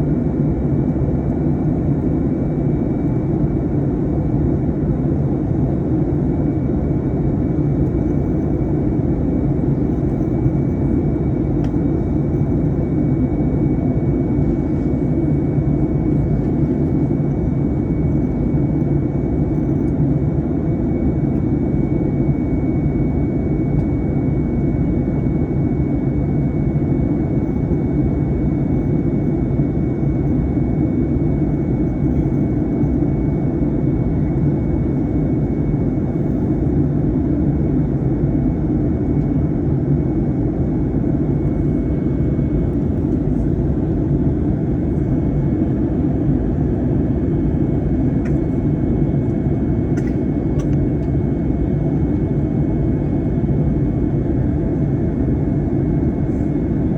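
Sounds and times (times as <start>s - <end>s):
aircraft cabin engine rumble: 0.0s - 56.9s
faint steady whine: 0.0s - 56.9s.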